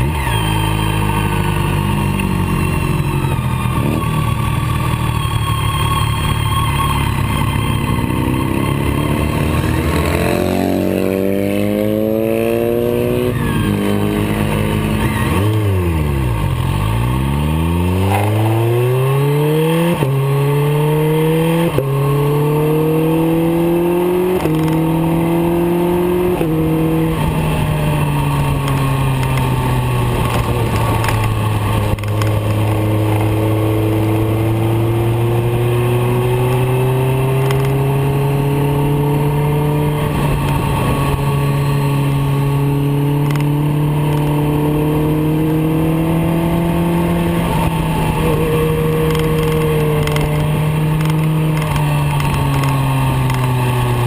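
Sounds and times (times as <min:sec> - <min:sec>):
motorcycle engine revving: 0:00.0 - 0:54.0
quick gear upshifts: 0:00.0 - 0:54.0.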